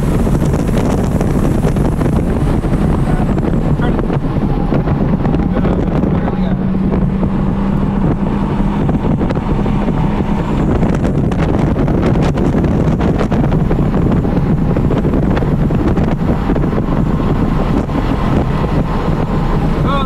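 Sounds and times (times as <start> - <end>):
car engine running steadily: 0.0 - 20.0
wind and road noise: 0.0 - 20.0.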